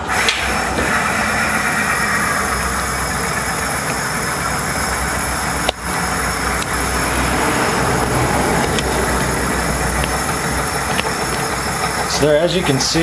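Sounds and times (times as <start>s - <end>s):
lathe flywheel rumbling whir: 0.0s - 13.0s.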